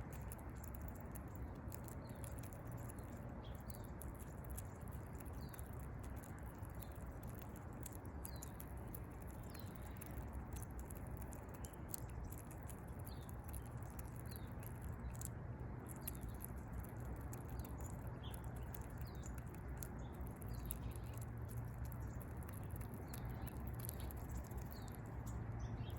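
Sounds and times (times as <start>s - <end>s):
squirrel chewing and cracking: 0.0s - 25.9s
faint high bird chirps: 0.1s - 25.9s.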